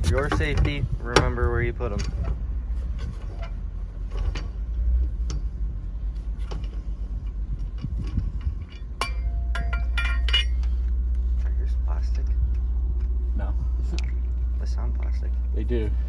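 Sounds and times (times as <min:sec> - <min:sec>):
low rumble: 0:00.0 - 0:16.0
lug nuts clinking: 0:00.0 - 0:16.0.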